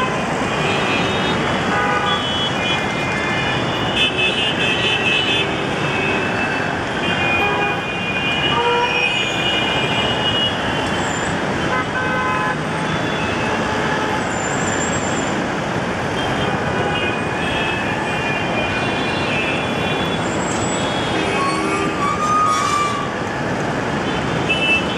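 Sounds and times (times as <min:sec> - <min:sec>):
din of traffic engines and tyres: 0:00.0 - 0:24.9.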